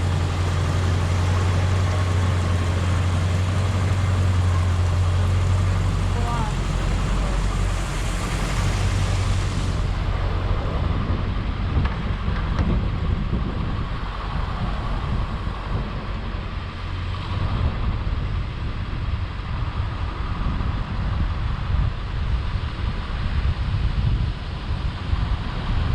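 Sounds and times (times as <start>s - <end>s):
vehicle road rumble: 0.0s - 25.9s
wind on microphone: 0.0s - 25.9s.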